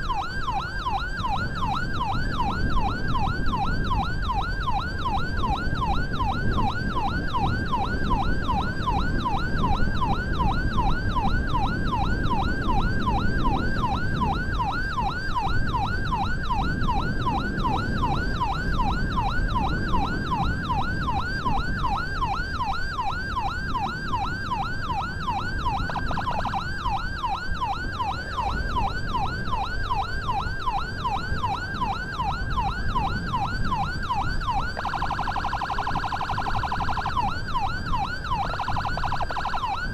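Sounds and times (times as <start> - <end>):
ambulance siren yelp: 0.0 - 39.9
road and engine noise: 0.0 - 39.9.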